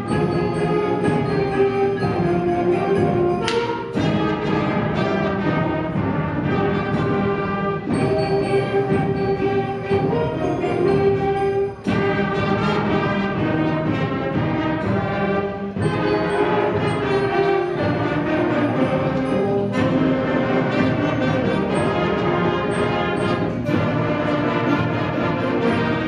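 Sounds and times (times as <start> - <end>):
concert band playing brass chords: 0.0 - 26.0.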